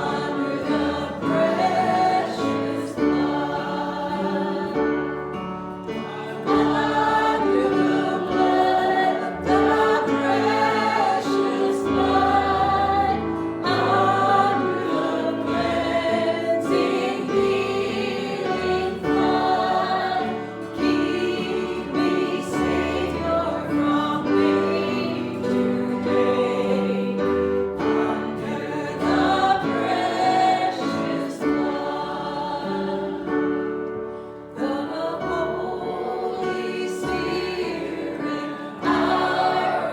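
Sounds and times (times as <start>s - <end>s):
group singing church song: 0.0s - 39.9s.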